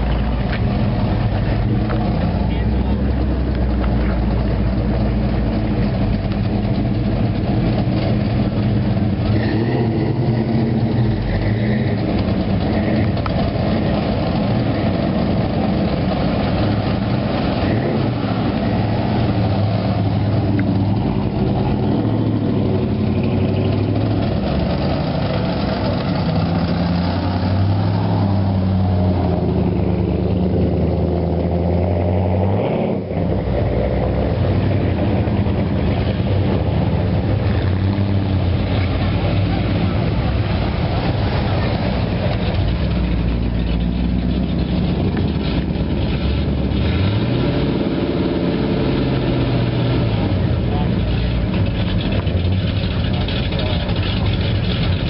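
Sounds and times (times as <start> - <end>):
car engines rumbling past: 0.0 - 55.0.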